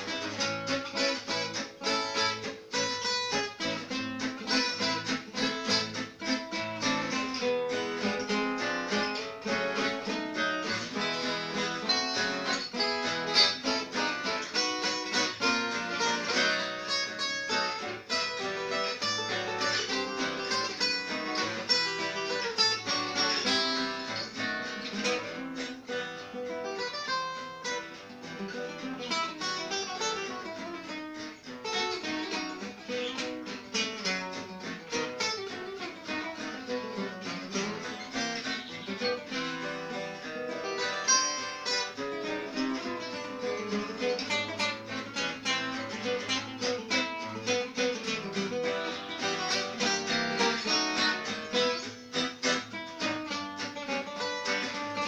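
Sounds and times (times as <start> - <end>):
acoustic guitars playing a waltz: 0.0 - 55.0.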